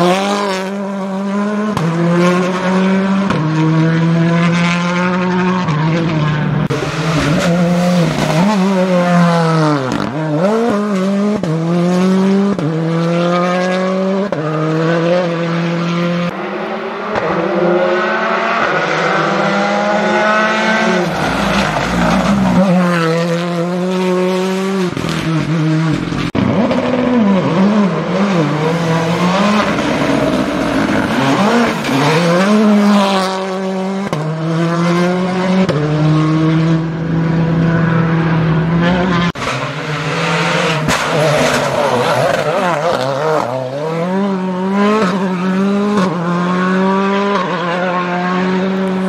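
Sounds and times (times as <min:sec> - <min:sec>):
rally cars revving past: 0:00.0 - 0:49.0.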